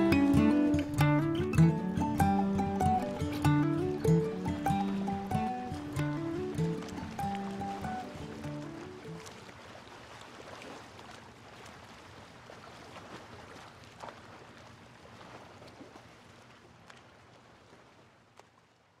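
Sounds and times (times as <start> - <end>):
seawater washing and lapping: 0.0 - 19.0.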